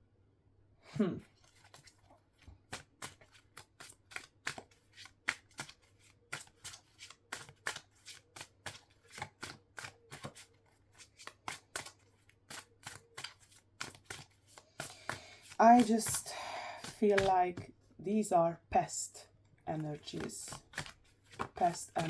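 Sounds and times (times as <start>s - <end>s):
cards being shuffled: 1.4s - 17.7s, 19.7s - 22.0s.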